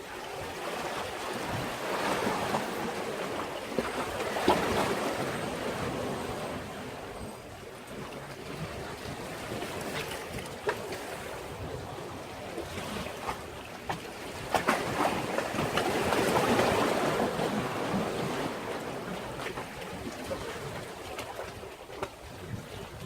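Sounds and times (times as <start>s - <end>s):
waves washing against breakwater: 0.0s - 23.0s.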